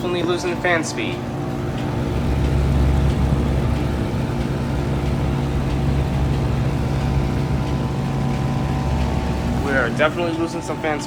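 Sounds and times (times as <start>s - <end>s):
heat pump humming with fan: 0.0s - 11.0s.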